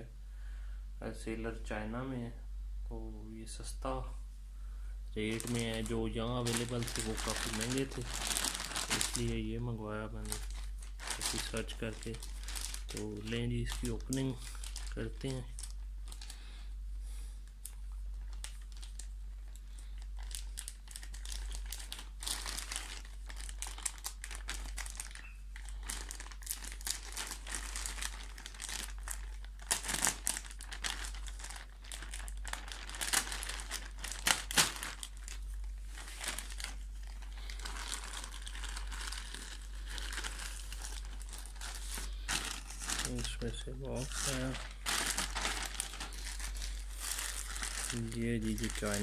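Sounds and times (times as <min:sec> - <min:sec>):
plastic mailer bag crinkling: 0:05.2 - 0:16.5, 0:17.6 - 0:49.0.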